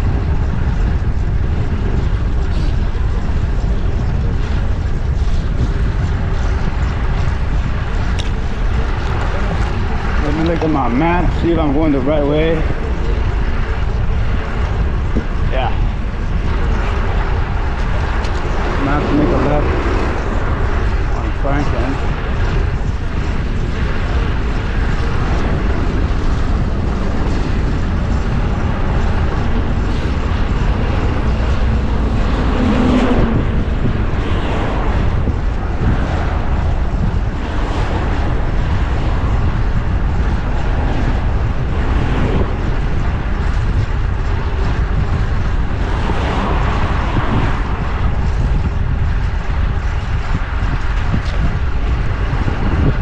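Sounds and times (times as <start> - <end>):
vehicles passing: 0.0 - 53.0
wind on microphone: 0.0 - 53.0.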